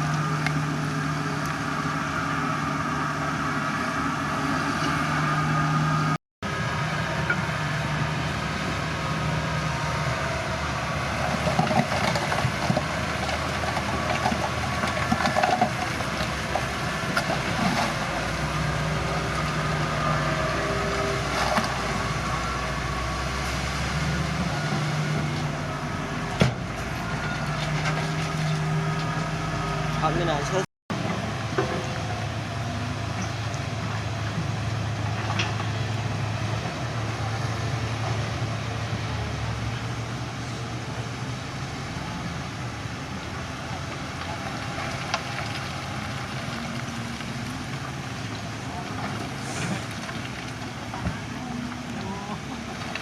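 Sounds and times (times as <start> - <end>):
heavy machinery diesel engine running: 0.0 - 53.0.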